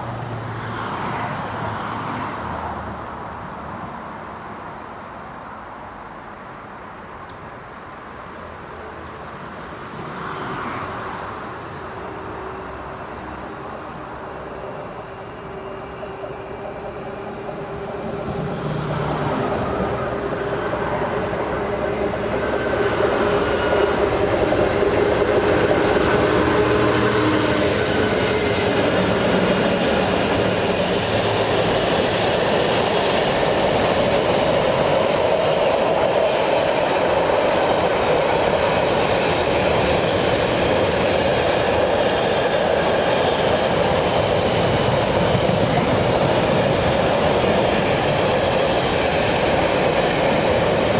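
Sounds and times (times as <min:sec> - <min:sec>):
train passing: 0:00.0 - 0:50.9.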